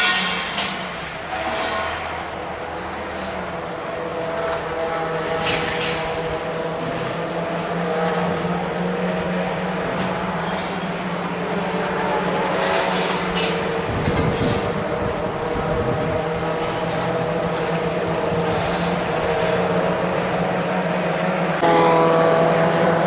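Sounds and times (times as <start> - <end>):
racing car engines running: 0.0 - 23.0.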